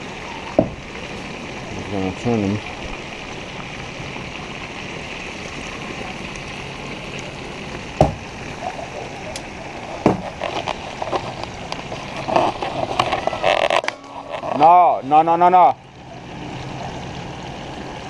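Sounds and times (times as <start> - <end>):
fish sizzling in oil: 0.0 - 15.2.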